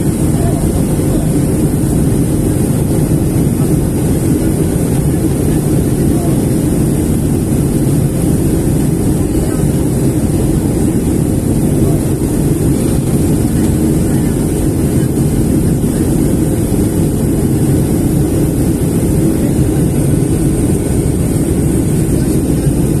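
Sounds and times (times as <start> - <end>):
jet cabin engine and airflow rush: 0.0 - 23.0.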